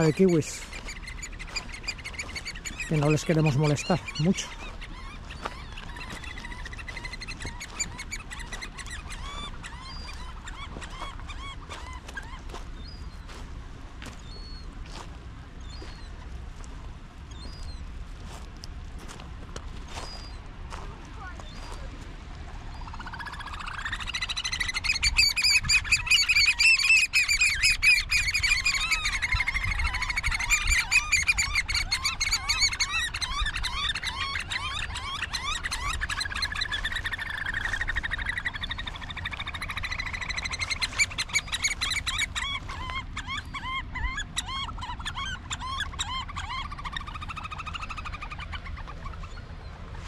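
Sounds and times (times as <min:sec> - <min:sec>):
birds piping shrilly: 0:00.0 - 0:50.0.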